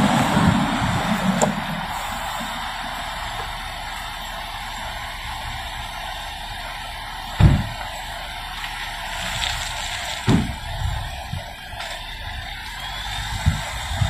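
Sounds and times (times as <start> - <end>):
car engine pulling away: 0.0 - 14.0
street background noise: 0.0 - 14.0.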